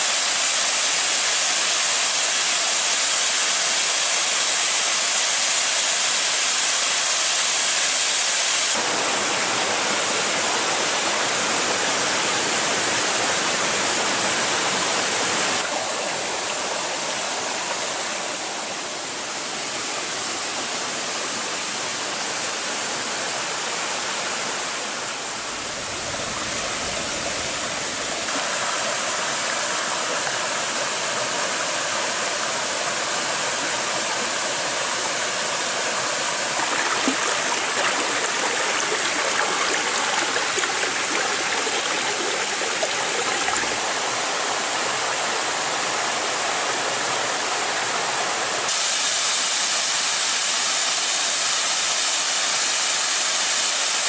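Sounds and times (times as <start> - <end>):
waterfall splashing into a pool: 0.0 - 18.8, 26.4 - 48.0, 48.6 - 54.0.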